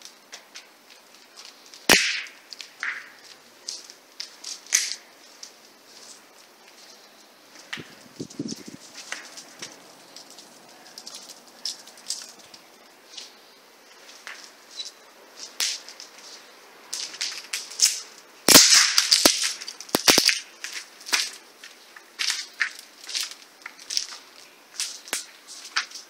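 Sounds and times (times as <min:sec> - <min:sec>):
footsteps crunching over debris: 0:00.0 - 0:26.0.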